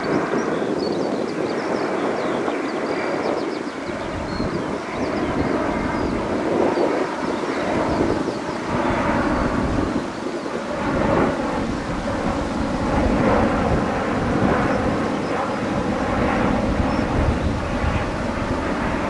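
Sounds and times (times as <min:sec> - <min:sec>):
jet engines: 0:00.0 - 0:19.0.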